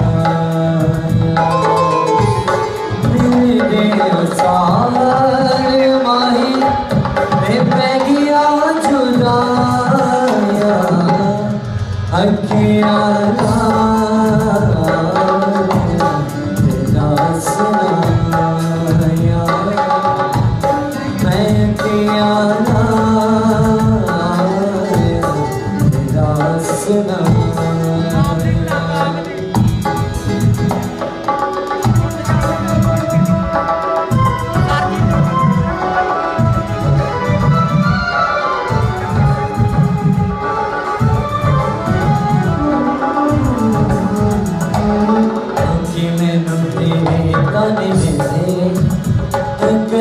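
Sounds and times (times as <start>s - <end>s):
man singing: 0.0s - 40.6s, 41.6s - 50.0s
dholak drumming: 0.0s - 50.0s
harmonium chords: 0.0s - 50.0s.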